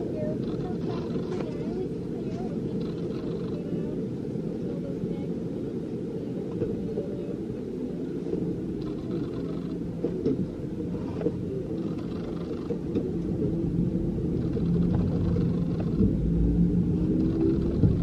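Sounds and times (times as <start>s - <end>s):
aircraft cabin rumble: 0.0s - 18.0s.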